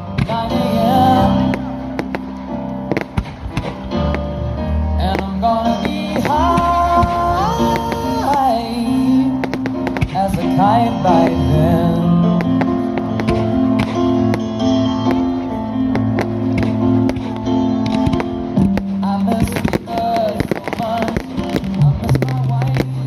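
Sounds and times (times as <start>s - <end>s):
music with singing: 0.0s - 23.0s.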